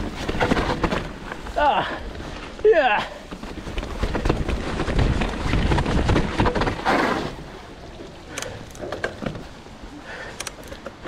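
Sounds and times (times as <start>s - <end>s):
bike tyres rolling on dirt trail: 0.0s - 11.0s.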